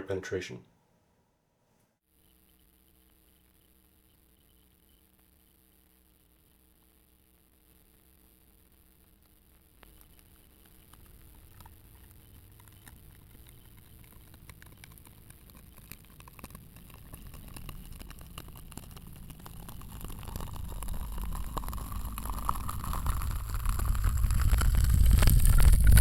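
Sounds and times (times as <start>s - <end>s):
faint clicks: 2.2s - 26.0s.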